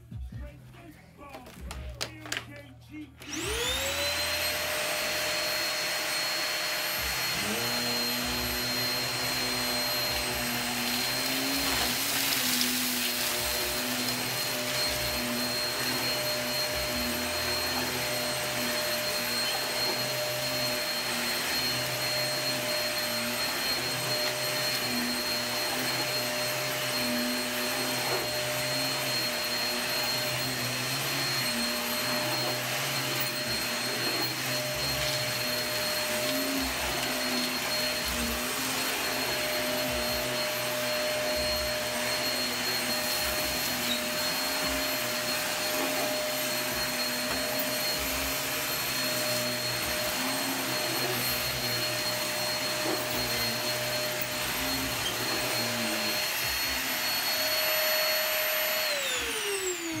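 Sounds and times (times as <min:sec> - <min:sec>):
vacuum cleaner motor whine: 0:03.2 - 1:00.0.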